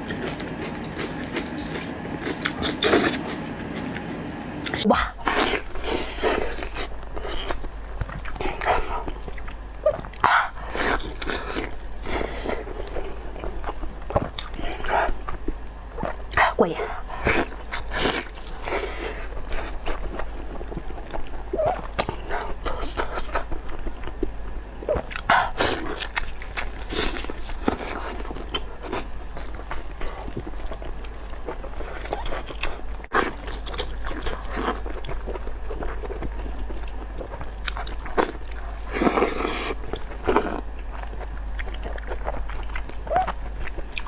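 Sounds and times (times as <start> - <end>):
person chewing meat with wet smacks: 5.2 - 24.4, 25.0 - 44.0.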